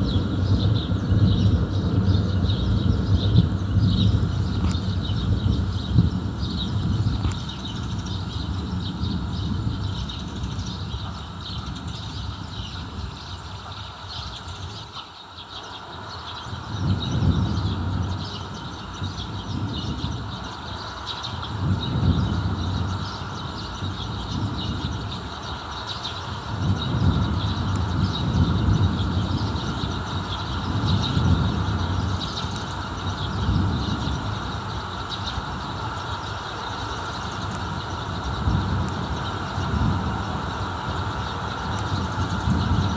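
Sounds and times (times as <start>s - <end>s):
distant thunder rolling: 0.0s - 14.9s, 16.5s - 42.9s.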